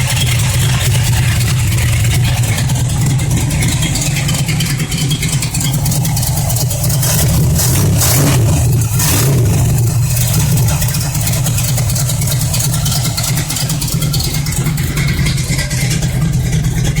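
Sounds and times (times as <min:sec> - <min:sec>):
car engine idling rough: 0:00.0 - 0:17.0.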